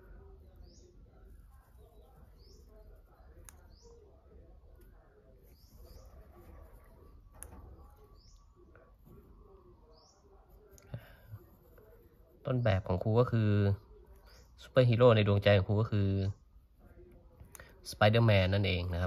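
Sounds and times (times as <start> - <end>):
small bird chirping: 0.0 - 16.5.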